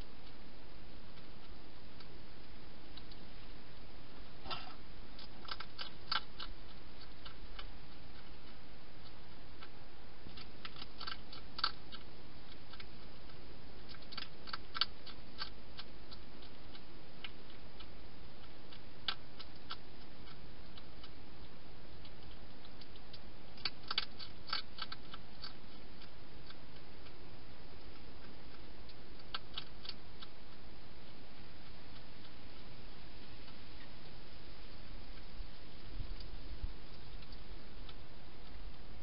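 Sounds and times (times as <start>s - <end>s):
hedgehog crunching food: 0.0s - 39.0s
steady hiss: 0.0s - 39.0s.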